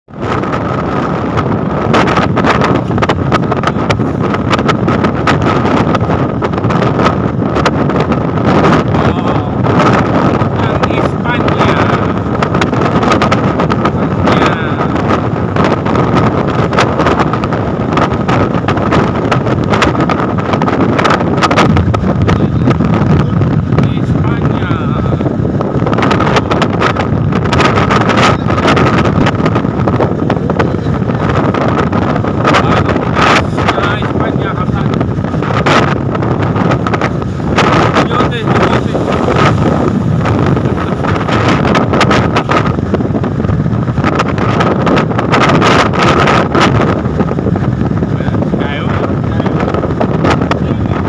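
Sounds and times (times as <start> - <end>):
gust crackles: 0.0 - 51.0
road and engine noise: 0.0 - 51.0
wind buffeting microphone: 0.0 - 51.0.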